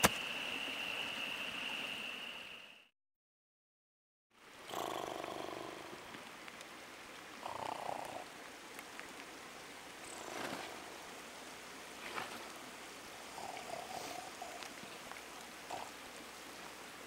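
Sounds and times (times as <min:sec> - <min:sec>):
faint steady hiss: 0:00.0 - 0:02.9, 0:04.4 - 0:17.0.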